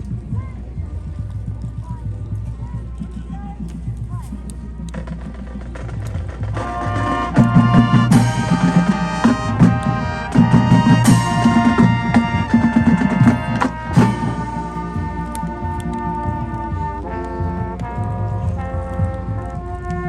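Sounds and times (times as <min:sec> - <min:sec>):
drumline: 0:00.0 - 0:20.0
brass chords: 0:02.6 - 0:20.0.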